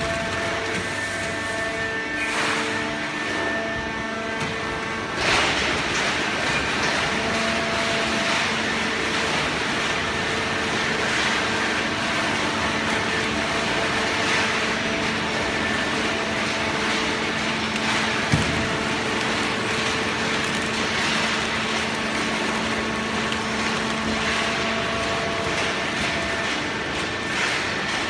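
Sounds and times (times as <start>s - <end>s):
hydraulic baler machine hum: 0.0s - 28.0s.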